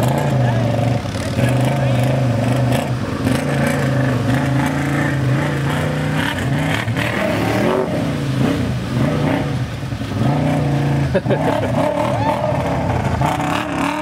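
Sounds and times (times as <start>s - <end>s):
atv engines running: 0.0s - 14.0s
four-wheeler engine revving: 0.0s - 14.0s.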